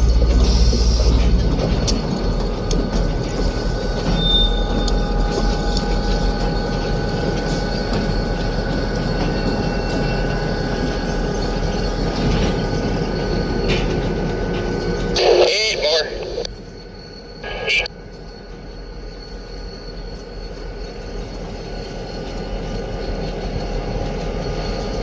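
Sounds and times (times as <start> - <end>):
freight train rumbling and rattling: 0.0 - 16.2, 18.3 - 25.0.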